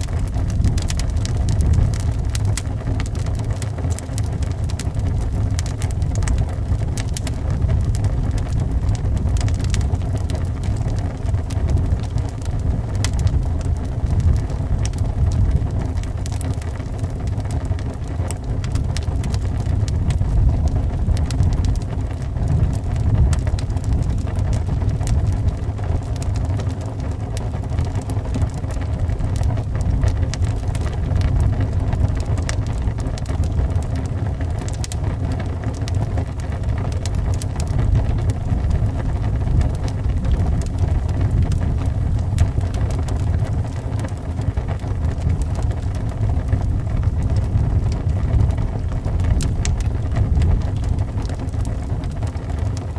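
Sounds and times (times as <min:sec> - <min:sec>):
howling wind: 0:00.0 - 0:52.9
wood fire crackling and popping: 0:00.0 - 0:52.9.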